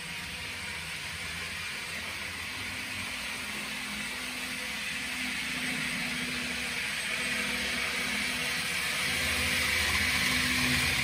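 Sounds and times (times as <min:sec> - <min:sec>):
model train motor whir: 0:00.0 - 0:11.0
wheels hissing on track: 0:00.0 - 0:11.0.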